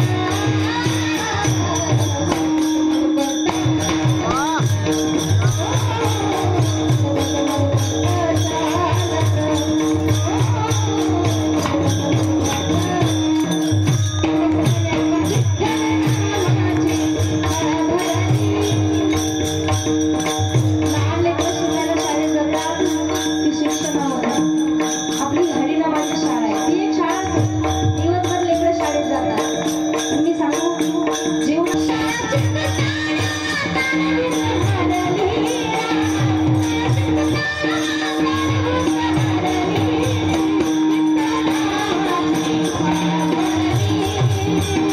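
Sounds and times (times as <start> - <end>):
devotional music: 0.0 - 44.9
jingling percussion: 0.0 - 44.9.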